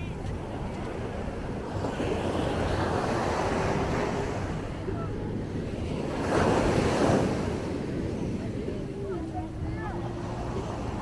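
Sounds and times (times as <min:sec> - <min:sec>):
waves breaking on beach: 0:00.0 - 0:11.0
wind rumbling on microphone: 0:00.0 - 0:11.0.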